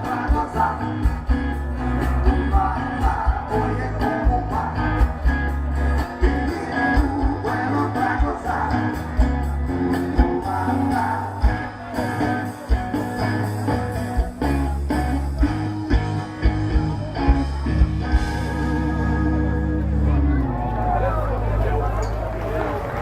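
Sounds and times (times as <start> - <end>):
person singing: 0.0 - 13.8, 14.4 - 20.5
live rock band playing: 0.0 - 21.0.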